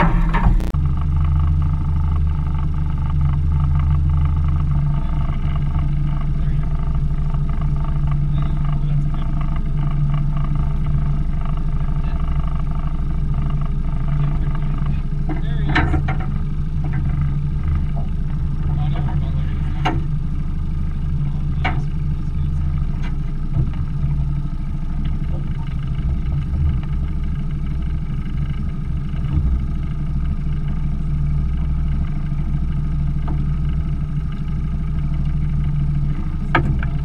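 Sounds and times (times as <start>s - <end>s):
outboard motor idling: 0.0s - 37.0s.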